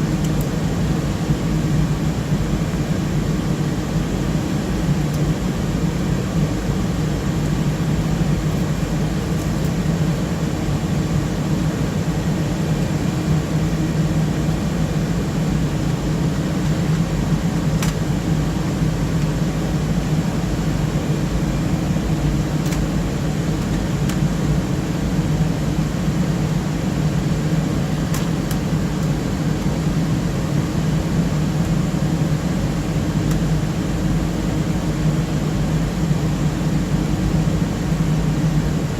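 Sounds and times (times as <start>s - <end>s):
cooling fans whirring: 0.0s - 38.9s.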